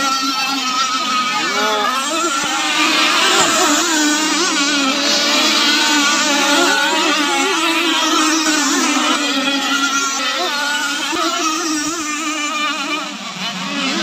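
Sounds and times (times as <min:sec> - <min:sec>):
high-pitched model boat engines buzzing: 0:00.0 - 0:14.0.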